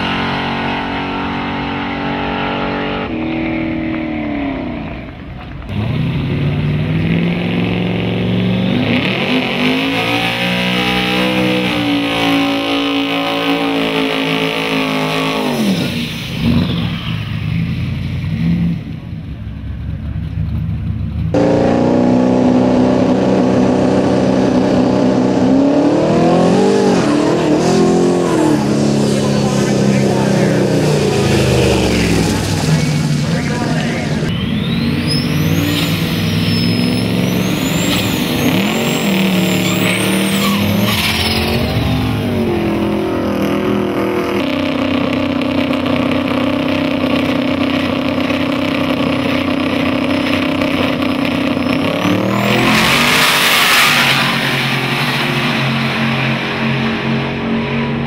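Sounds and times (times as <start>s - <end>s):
drag car engine at full throttle: 0.0s - 58.0s
truck engine revving: 0.0s - 58.0s.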